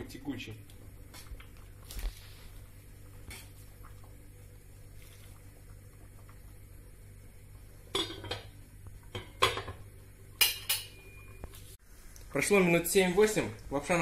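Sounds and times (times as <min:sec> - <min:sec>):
water boiling in a pot: 0:00.1 - 0:14.0.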